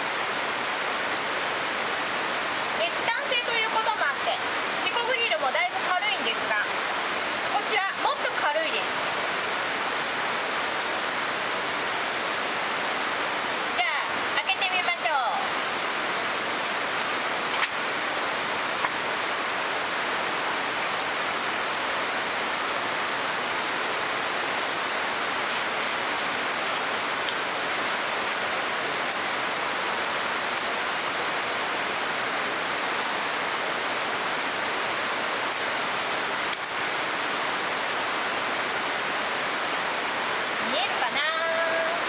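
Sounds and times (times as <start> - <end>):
flowing water rushing: 0.0 - 42.0.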